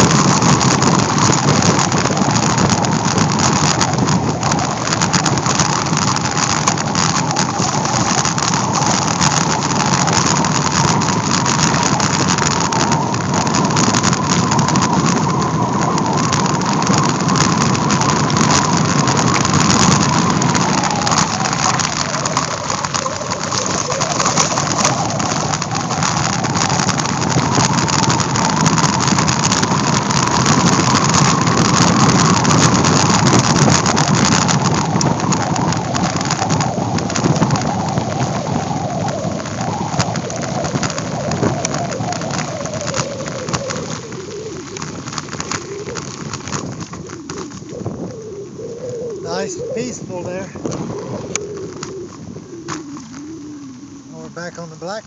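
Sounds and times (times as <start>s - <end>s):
faint whine: 0.0s - 55.0s
tyres rolling on gravel: 0.0s - 55.0s
wind against microphone: 0.0s - 55.0s.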